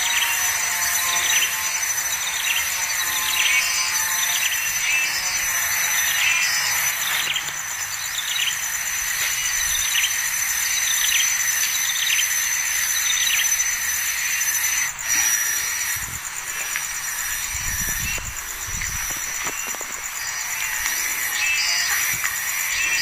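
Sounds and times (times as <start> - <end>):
high insect-like drone: 0.0 - 23.0
small birds chirping: 0.0 - 23.0.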